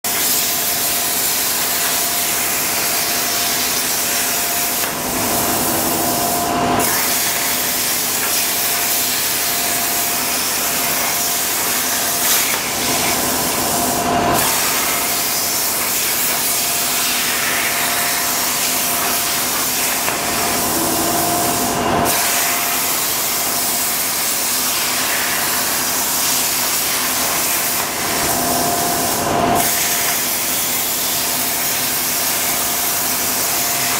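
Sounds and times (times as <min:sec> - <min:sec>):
plasma arc hissing: 0:00.2 - 0:33.9.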